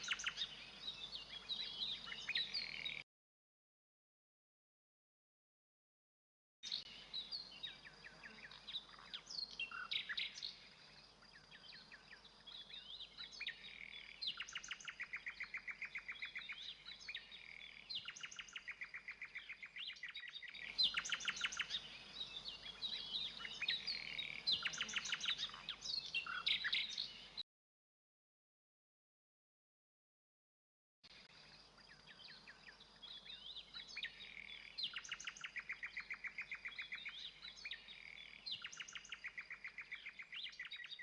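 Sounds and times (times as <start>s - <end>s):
songbirds chirping and trilling: 0.0s - 3.0s, 6.6s - 27.4s, 31.1s - 41.0s.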